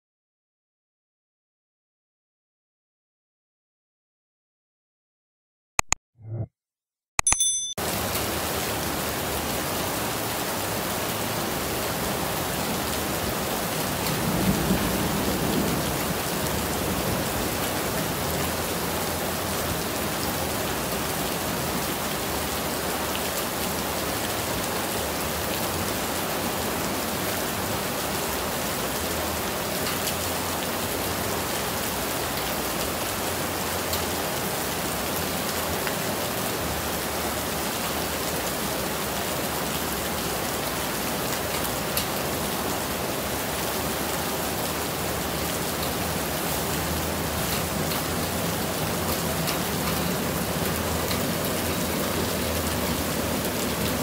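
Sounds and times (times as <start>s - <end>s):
steady rain falling: 7.8s - 54.0s.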